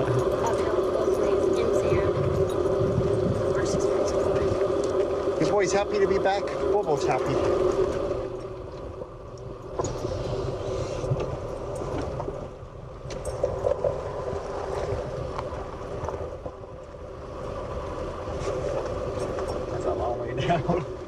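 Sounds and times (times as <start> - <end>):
vehicle driving drone: 0.0 - 21.0.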